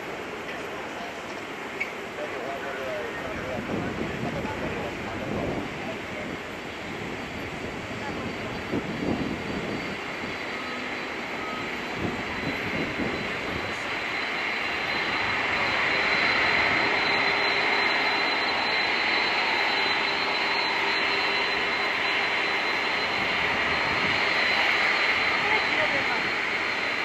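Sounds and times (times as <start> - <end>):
jet engines taxiing: 0.0 - 27.0.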